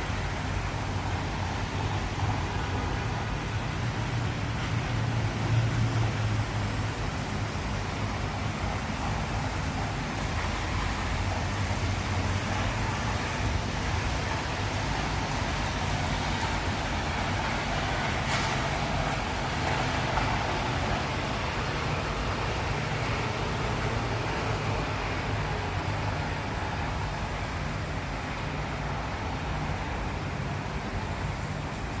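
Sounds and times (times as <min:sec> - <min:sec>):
traffic engine hum: 0:00.0 - 0:32.0
tyre hiss on wet road: 0:00.0 - 0:32.0.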